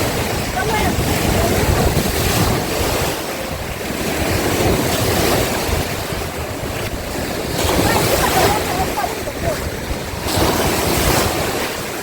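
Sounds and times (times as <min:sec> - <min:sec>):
water rushing and splashing: 0:00.0 - 0:12.0
wind buffeting microphone: 0:00.0 - 0:12.0.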